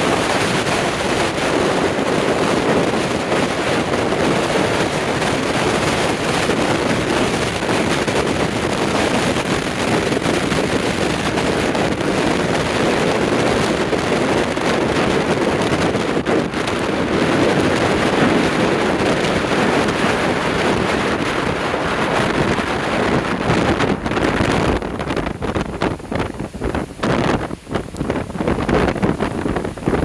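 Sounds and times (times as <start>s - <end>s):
gusty wind buffeting microphone: 0.0s - 30.0s
storm waves breaking on shore: 0.0s - 30.0s.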